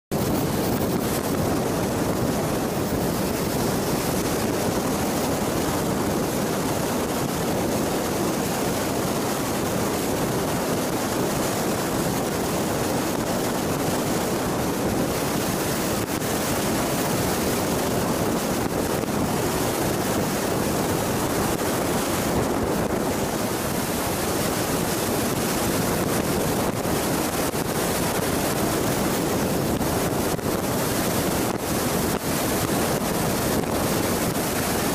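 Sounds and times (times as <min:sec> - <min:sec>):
road and wind noise: 0:00.1 - 0:34.9.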